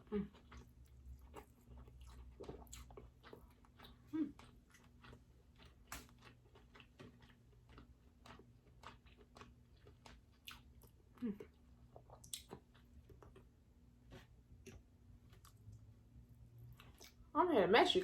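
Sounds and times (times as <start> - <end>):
wet chewing and lip smacks: 0.0 - 15.9, 16.6 - 17.2.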